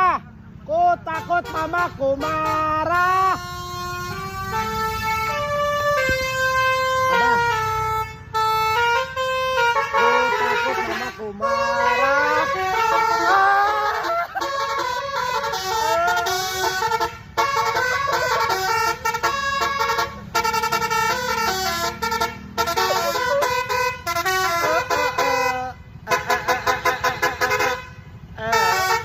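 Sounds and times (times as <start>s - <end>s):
multi-tone musical bus horn: 1.0s - 29.0s.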